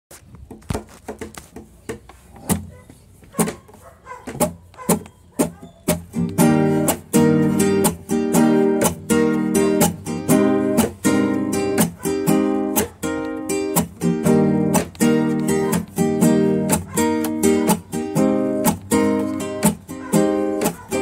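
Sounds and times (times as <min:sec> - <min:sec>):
acoustic guitar playing: 0:03.4 - 0:21.0.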